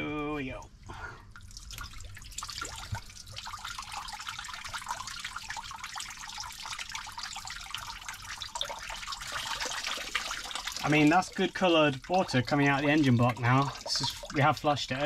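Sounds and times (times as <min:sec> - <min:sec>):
water trickling and dripping: 0:00.5 - 0:15.0.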